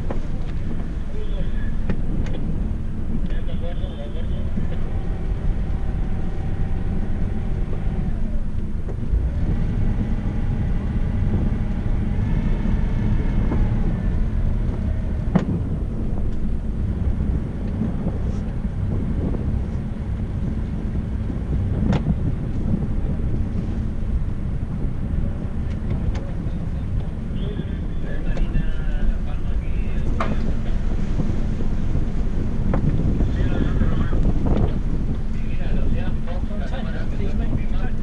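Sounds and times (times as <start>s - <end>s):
boat engine rumbling: 0.0s - 38.0s.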